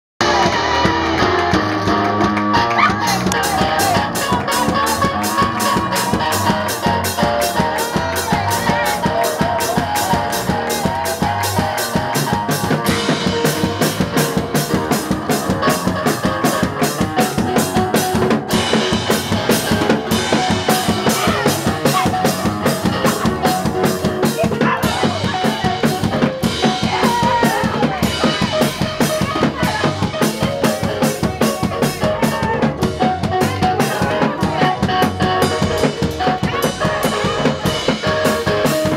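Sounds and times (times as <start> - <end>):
drum kit fast beat: 0.2 - 38.9
electric keyboard chords: 0.2 - 38.9.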